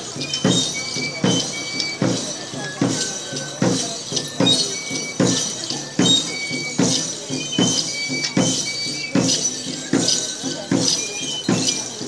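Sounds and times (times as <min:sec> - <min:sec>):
drum beating steadily: 0:00.0 - 0:12.0.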